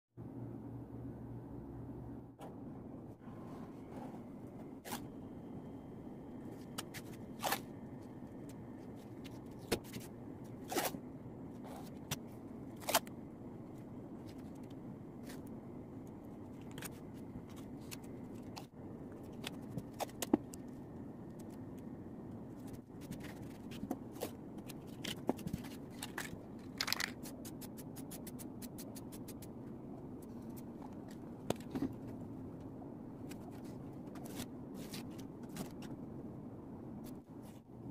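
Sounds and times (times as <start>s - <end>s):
steady low hum: 0.2s - 37.9s.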